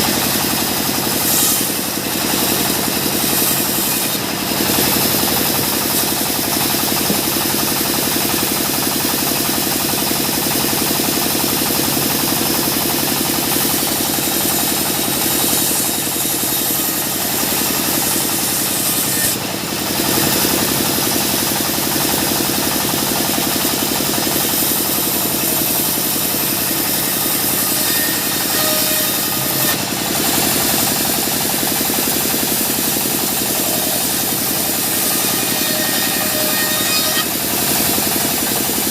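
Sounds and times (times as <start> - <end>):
engine running steadily: 0.0 - 27.6, 29.7 - 35.1.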